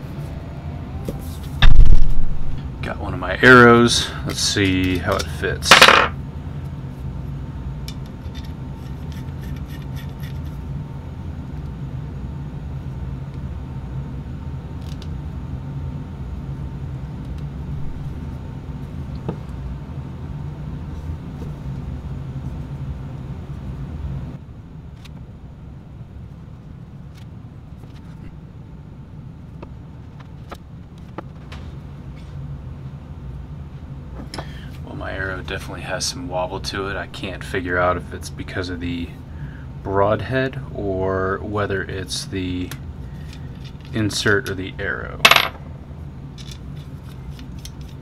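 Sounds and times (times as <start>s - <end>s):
low machine hum: 0.0s - 48.0s.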